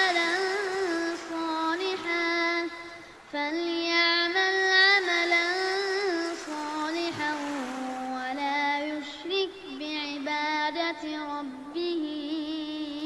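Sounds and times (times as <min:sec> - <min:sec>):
child reciting melodically: 0:00.0 - 0:13.0.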